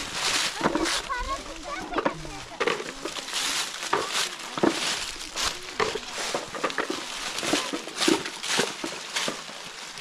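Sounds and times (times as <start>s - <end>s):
dry leaves crackling and rustling: 0.0s - 10.0s.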